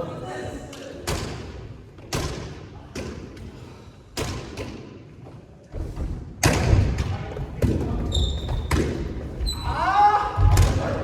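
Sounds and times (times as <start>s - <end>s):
dull thuds echoing in a hall: 0.8s - 11.0s.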